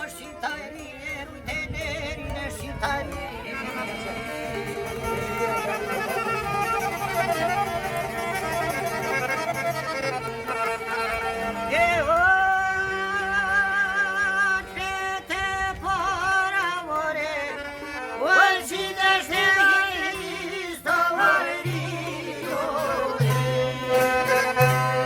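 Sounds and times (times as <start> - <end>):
accordion drone: 0.0 - 25.0.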